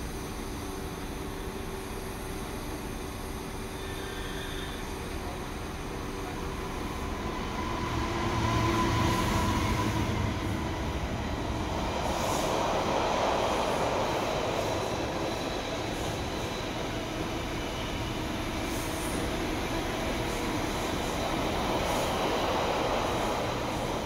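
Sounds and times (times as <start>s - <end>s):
diesel train arriving: 0.0s - 24.0s.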